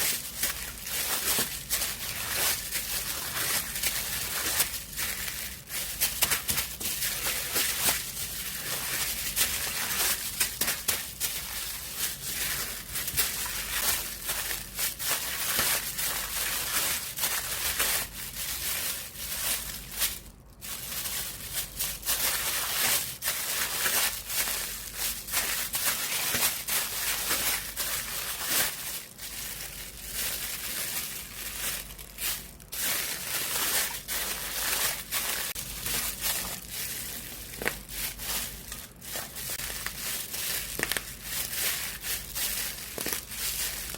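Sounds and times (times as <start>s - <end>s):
slime crinkling and crackling: 0.0s - 43.9s.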